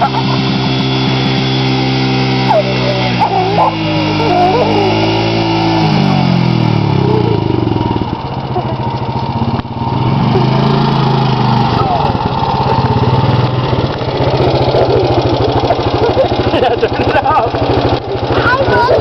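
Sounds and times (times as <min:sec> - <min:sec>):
quad bike engines running: 0:00.0 - 0:19.0.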